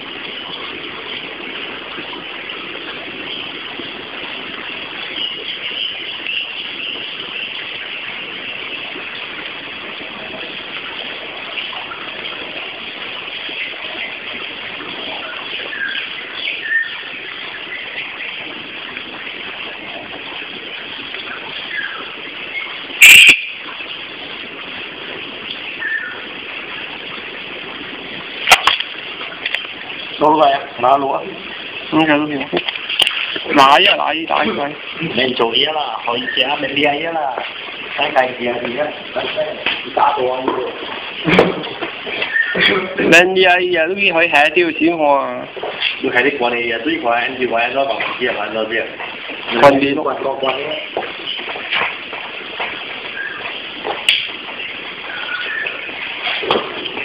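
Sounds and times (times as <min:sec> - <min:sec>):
steady background noise: 0:00.0 - 0:57.0
steady hiss-like rush: 0:00.0 - 0:57.0.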